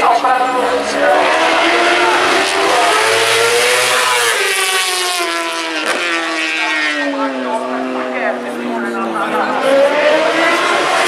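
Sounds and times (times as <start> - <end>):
motorcycle engine at high revs: 0.6 - 11.0.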